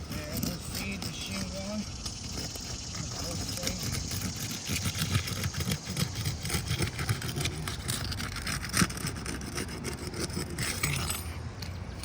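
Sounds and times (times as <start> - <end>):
metal tool scraping roof shingle: 0.0 - 12.0.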